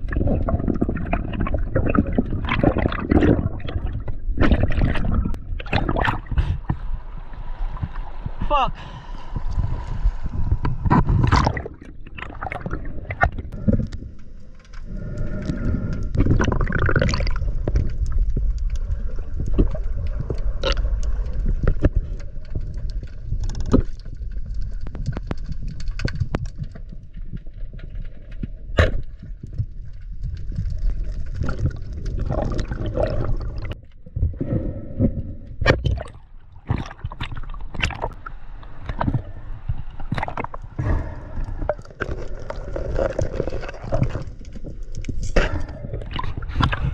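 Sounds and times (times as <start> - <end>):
muffled underwater rumble: 0.0 - 46.9
underwater bubbling: 0.0 - 46.9.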